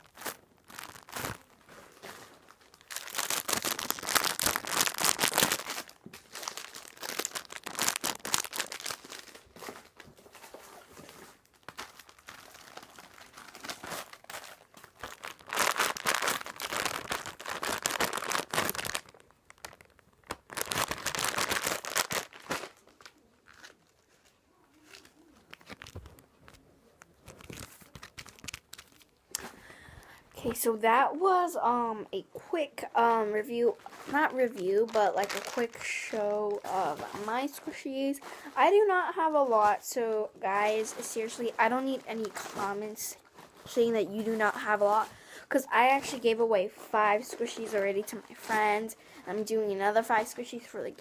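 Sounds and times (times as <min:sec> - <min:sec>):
plastic packaging crinkling: 0:00.0 - 0:29.6, 0:33.2 - 0:50.7.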